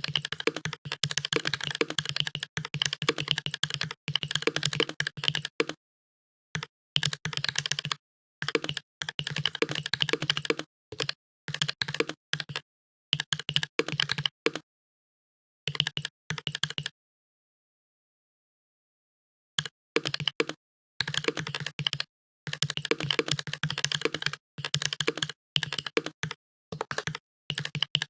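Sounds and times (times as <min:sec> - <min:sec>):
fast typing on a keyboard: 0:00.0 - 0:05.8, 0:06.6 - 0:12.6, 0:13.2 - 0:14.6, 0:15.7 - 0:16.9, 0:19.6 - 0:28.0.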